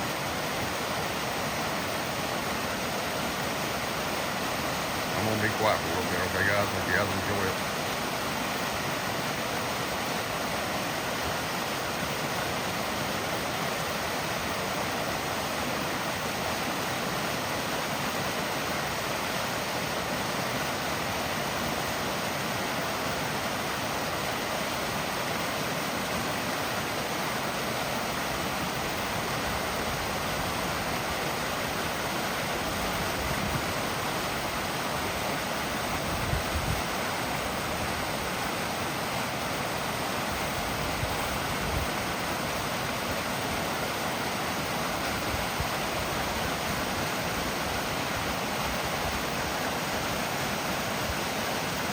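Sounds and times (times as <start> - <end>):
waterfall spilling over rocks: 0.0 - 51.9.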